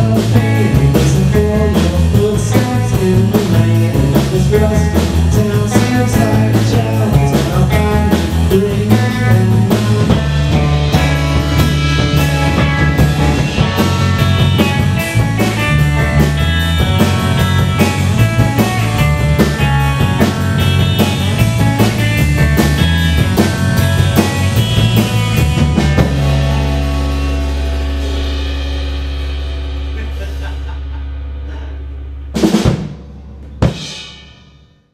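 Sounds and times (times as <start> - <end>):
heavy low end: 0.0 - 34.5
distorted electric guitars: 0.0 - 34.6
drum kit with cymbals: 0.0 - 34.9.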